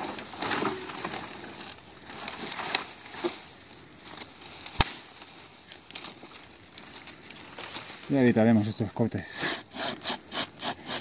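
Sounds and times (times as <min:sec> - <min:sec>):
twigs and grass crackling: 0:00.0 - 0:09.2.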